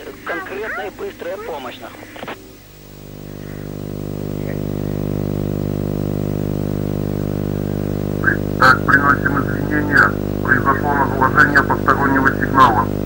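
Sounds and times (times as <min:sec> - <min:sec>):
low buzzing drone: 0:01.9 - 0:13.0.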